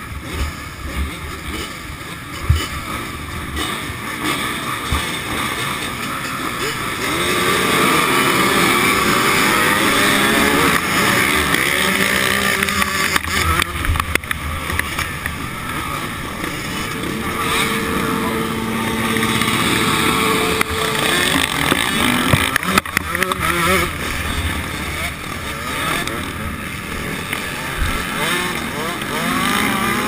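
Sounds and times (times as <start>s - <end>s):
motocross bikes revving: 0.0s - 30.0s
two-stroke engine revving: 0.0s - 30.0s.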